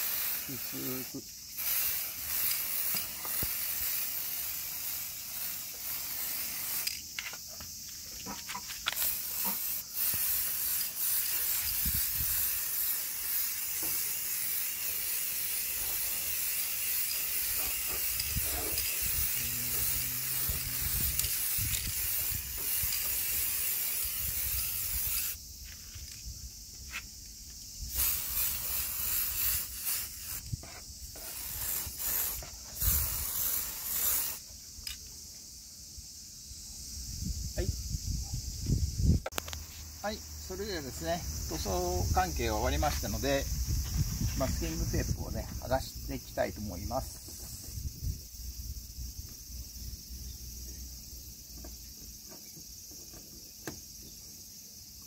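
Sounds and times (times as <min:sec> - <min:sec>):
aerosol spray can hissing: 0:00.0 - 0:26.2, 0:27.0 - 0:35.2, 0:38.8 - 0:51.6.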